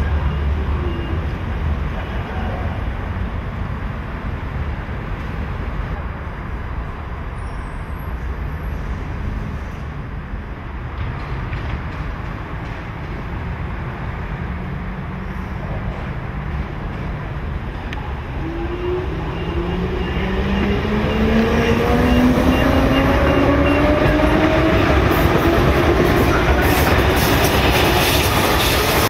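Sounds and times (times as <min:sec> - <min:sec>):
electric train rumbling on track: 0:00.0 - 0:29.0.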